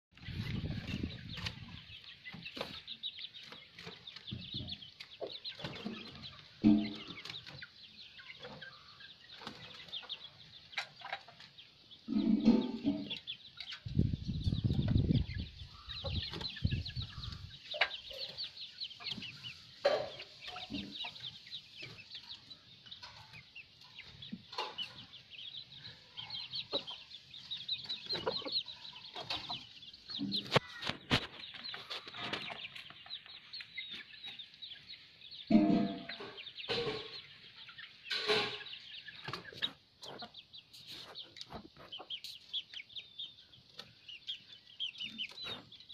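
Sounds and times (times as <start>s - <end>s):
chicks peeping: 0.1s - 45.9s
hens clucking: 0.2s - 45.9s.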